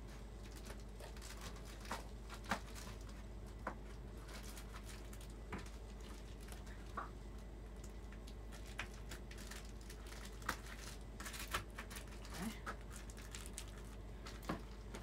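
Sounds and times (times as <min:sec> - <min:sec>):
foil bubble insulation crinkling: 0:00.0 - 0:15.0.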